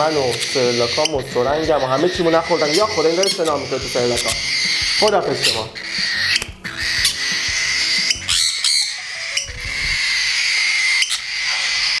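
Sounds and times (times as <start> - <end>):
parrot chicks raspy calling: 0.0 - 12.0
sharp squawks: 0.0 - 12.0.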